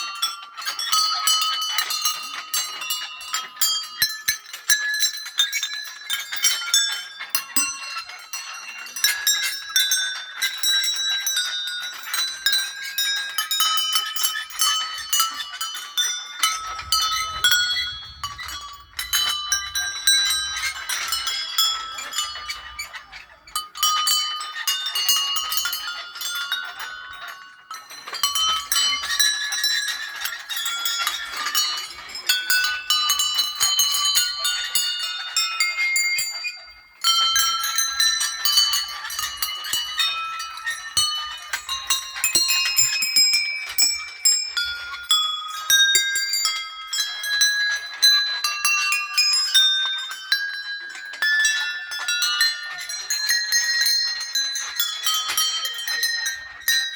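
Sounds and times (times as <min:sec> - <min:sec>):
small temple bells ringing: 0:00.0 - 0:56.9.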